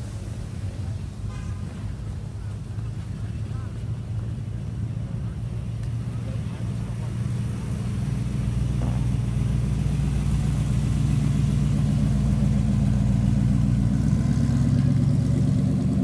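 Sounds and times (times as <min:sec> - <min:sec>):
pickup truck engine rolling past: 0:01.9 - 0:16.0.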